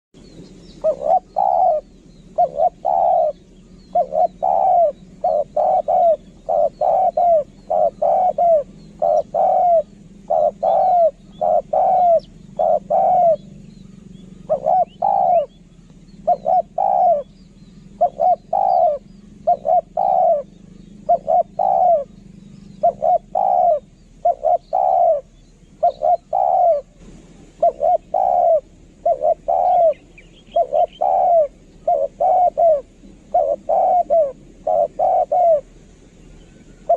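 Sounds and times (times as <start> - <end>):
dove cooing: 0.2 - 36.9.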